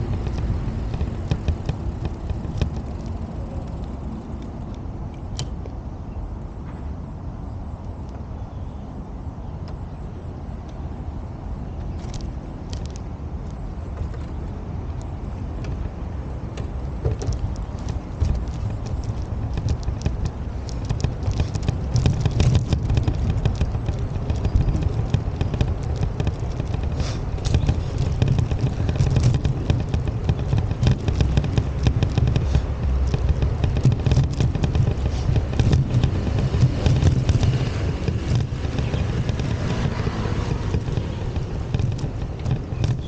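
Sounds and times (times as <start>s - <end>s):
crackling clicks: 0.0s - 5.8s, 11.8s - 43.0s
wind buffeting microphone: 0.0s - 43.0s.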